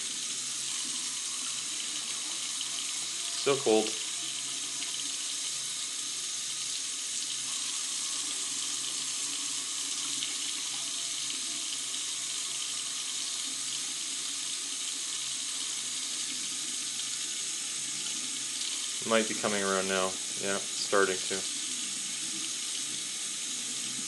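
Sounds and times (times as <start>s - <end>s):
tap water running: 0.0s - 24.0s.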